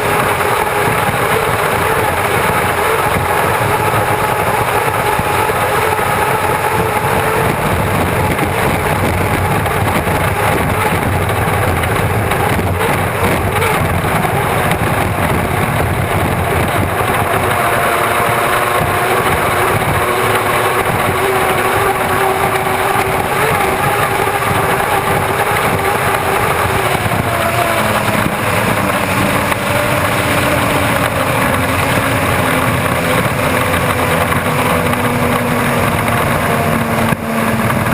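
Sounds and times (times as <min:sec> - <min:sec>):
rushing wind: 0:00.0 - 0:37.9
turbine engine running: 0:00.0 - 0:37.9
water noise: 0:00.0 - 0:37.9.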